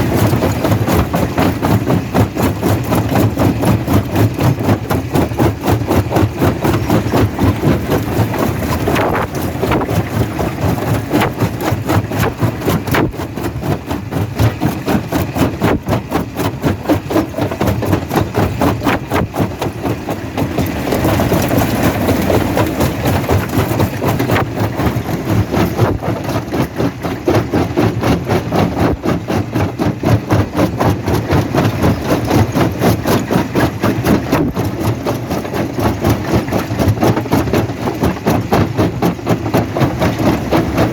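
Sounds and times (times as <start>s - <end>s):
jaw crusher throbbing: 0.0s - 37.2s.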